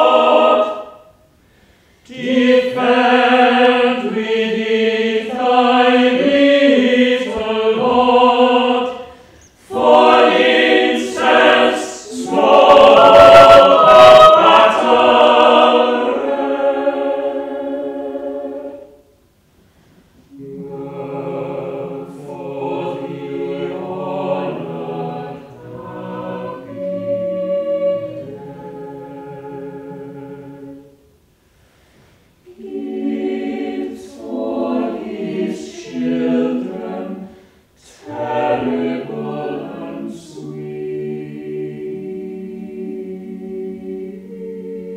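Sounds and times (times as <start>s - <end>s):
choir singing in harmony: 0.0s - 19.2s, 20.2s - 31.3s, 32.4s - 44.9s.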